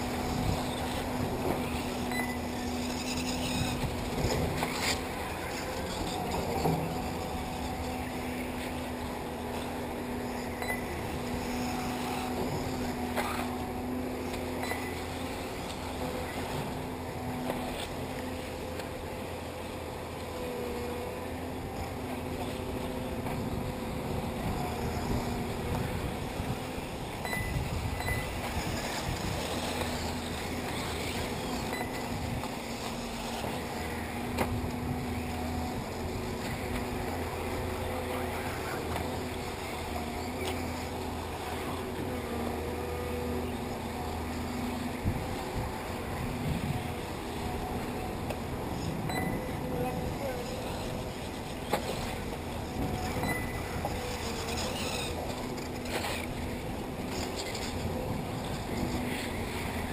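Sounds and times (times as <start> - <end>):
electric toy cars humming: 0.0 - 59.9.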